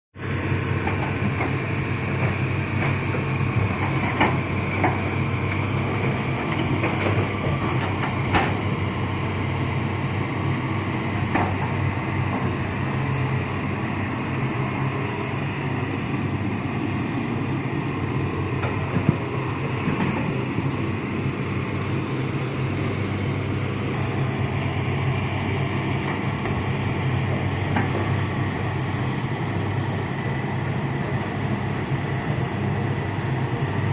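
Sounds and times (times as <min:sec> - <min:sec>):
diesel machinery running: 0:00.2 - 0:33.9.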